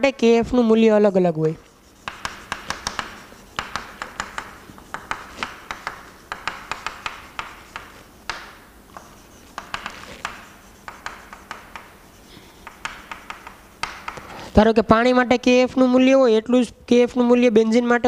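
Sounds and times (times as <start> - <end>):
chalk writing on a chalkboard: 0.0 - 14.7.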